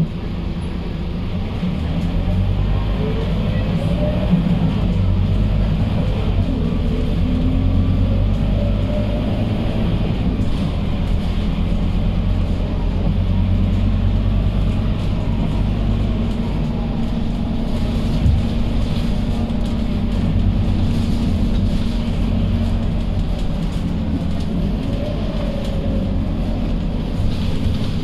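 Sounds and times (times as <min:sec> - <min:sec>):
bus diesel engine running: 0:00.0 - 0:28.0
road noise: 0:00.0 - 0:28.0.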